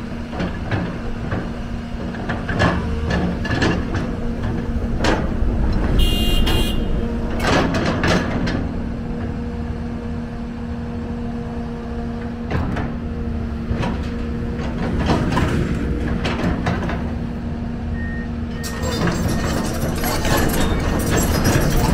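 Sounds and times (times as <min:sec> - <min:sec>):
excavator engine hum: 0:00.0 - 0:21.9.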